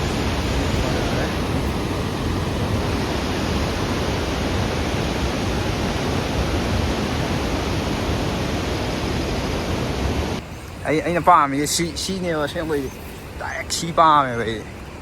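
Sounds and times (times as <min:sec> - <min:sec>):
waterfall roaring: 0:00.0 - 0:12.6.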